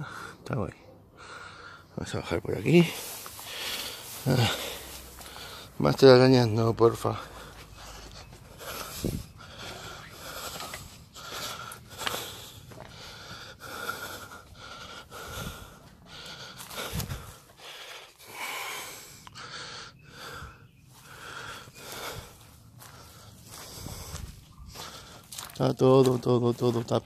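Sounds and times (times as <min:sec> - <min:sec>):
person breathing hard with wheeze: 0:01.1 - 0:02.0, 0:02.8 - 0:05.8, 0:07.1 - 0:25.6
footsteps on dry ground: 0:02.6 - 0:18.6, 0:20.2 - 0:27.0.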